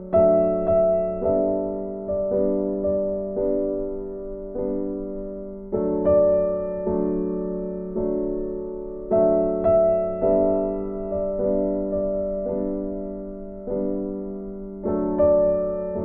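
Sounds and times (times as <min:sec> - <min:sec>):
slow calm piano: 0:00.0 - 0:16.0.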